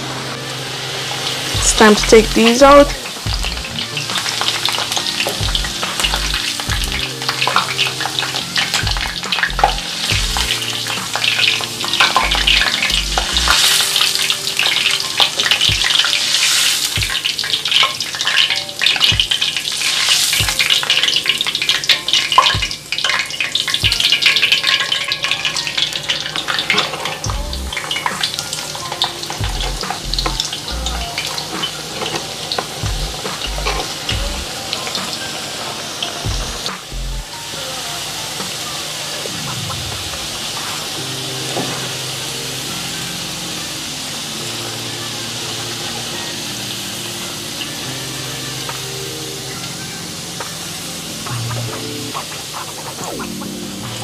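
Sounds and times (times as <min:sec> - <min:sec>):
fries sizzling in hot oil: 0:00.0 - 0:54.0.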